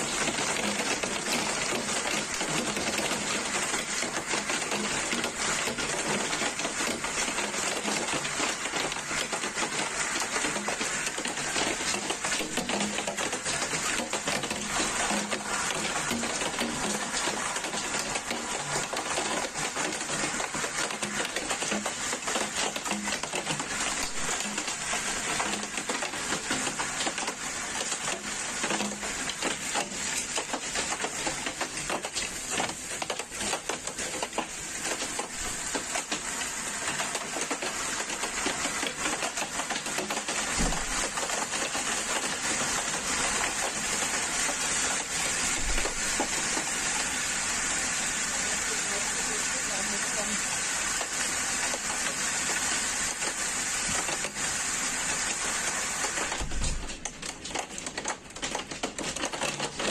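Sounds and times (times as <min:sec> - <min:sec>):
hailstones pelting down: 0:00.0 - 0:59.9.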